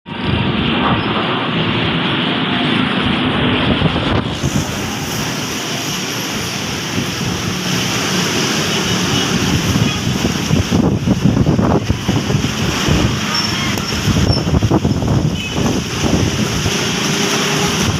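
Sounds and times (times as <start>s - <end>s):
strong wind buffeting microphone: 0.1s - 8.1s, 9.0s - 17.9s.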